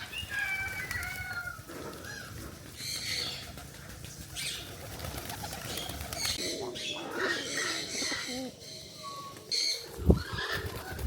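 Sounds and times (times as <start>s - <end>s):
farm animals: 0.0s - 4.8s, 6.2s - 11.0s
faint birds: 0.0s - 11.0s.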